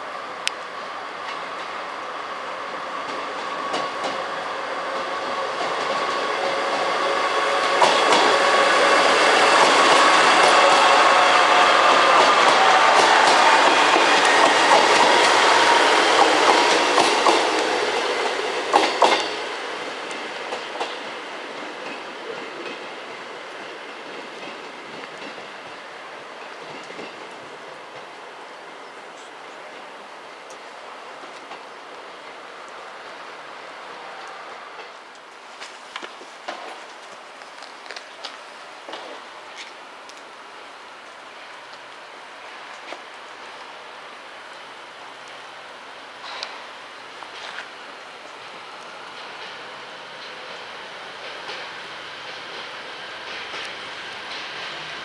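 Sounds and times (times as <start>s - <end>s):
train passing: 0.0s - 55.0s.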